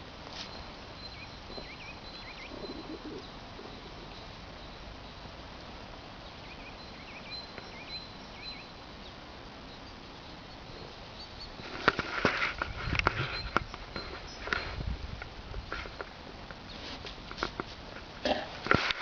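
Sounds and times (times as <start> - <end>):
outdoor background noise: 0.0 - 19.0
small birds chirping: 0.3 - 17.9.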